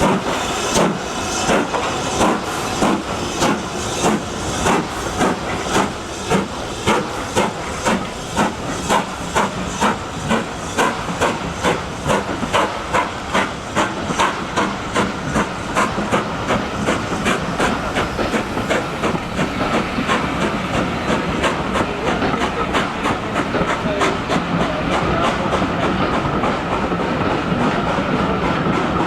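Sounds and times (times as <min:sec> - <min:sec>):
continuous steam hiss: 0:00.0 - 0:29.0
steam locomotive exhaust beats: 0:00.0 - 0:29.0.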